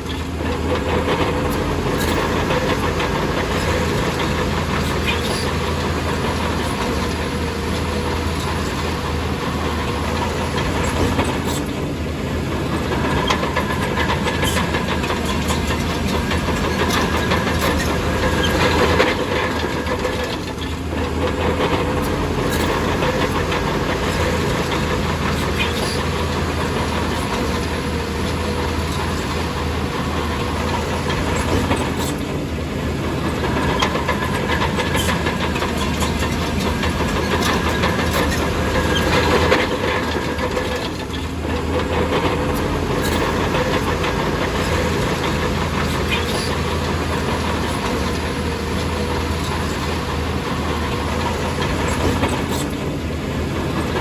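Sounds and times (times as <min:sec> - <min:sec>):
diesel machinery engine drone: 0:00.0 - 0:54.0.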